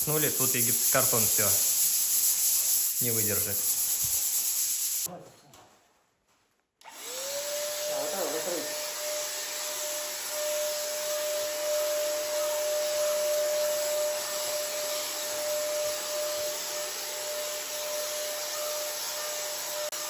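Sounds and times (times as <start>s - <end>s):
paint spray gun running: 0.0s - 5.1s, 6.8s - 20.0s.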